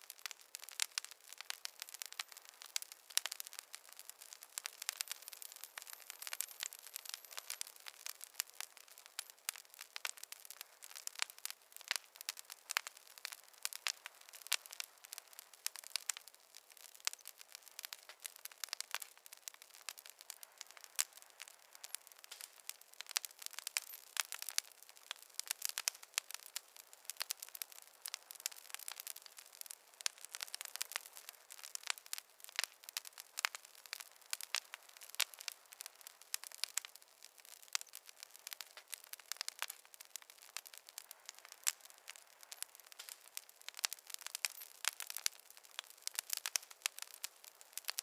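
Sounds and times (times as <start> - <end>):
faint hiss: 0.0 - 48.0
wood fire crackling and popping: 0.0 - 48.0.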